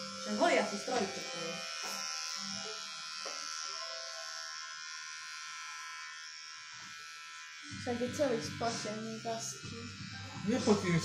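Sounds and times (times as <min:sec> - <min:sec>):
electric hair clippers buzzing: 0:00.0 - 0:11.0.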